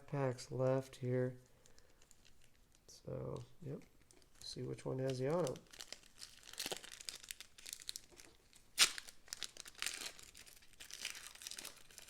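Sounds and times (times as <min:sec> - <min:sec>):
plastic wrapper crinkling and tearing: 0:01.4 - 0:12.0.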